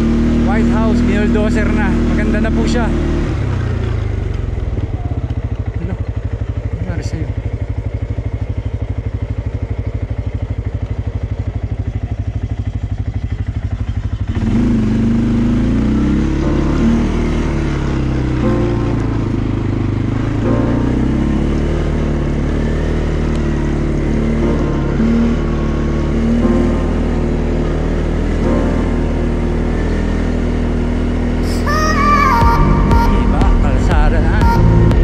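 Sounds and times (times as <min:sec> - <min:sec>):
quad engine idling and revving: 0:00.0 - 0:35.0.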